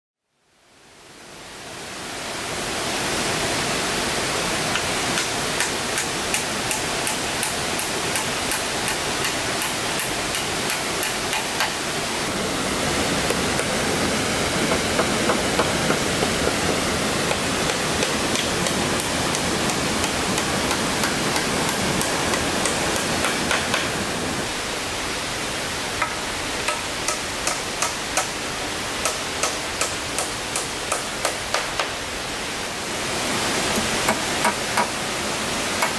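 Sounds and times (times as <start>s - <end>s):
steady rushing noise: 2.1s - 35.9s.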